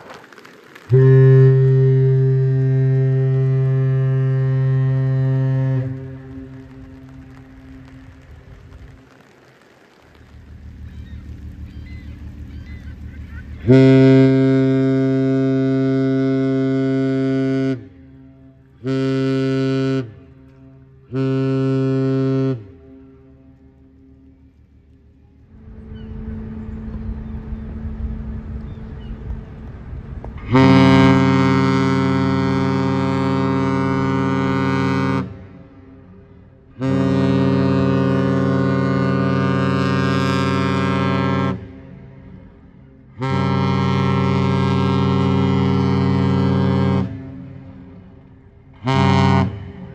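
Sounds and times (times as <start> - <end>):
deep ship horn blasts: 0.9 - 9.1, 10.2 - 49.9.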